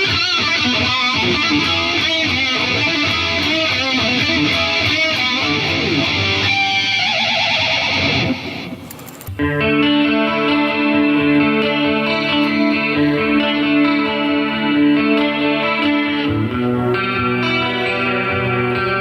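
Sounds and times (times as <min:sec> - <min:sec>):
electric guitar notes: 0:00.0 - 0:19.0.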